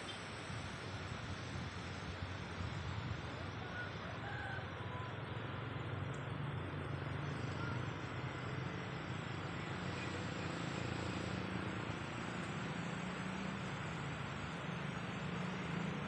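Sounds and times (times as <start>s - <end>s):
light hiss: 0.0s - 3.9s, 5.1s - 16.0s
low outdoor rumble: 0.0s - 16.0s.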